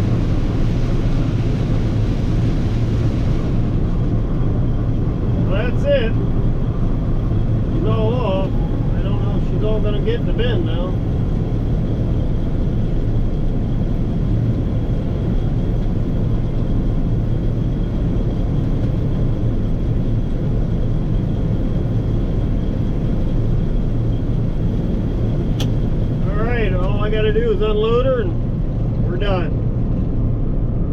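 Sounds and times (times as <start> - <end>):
combine harvester running: 0.0 - 30.9.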